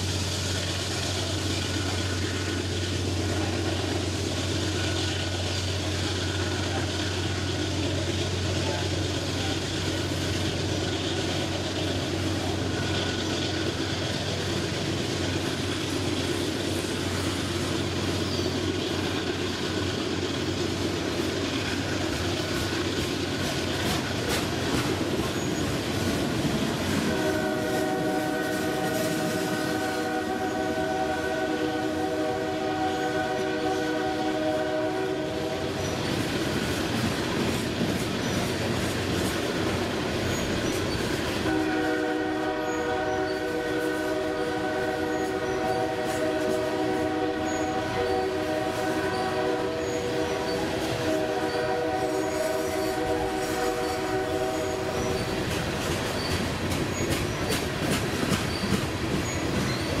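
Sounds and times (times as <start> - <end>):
train cars rolling on rails: 0.0 - 60.0.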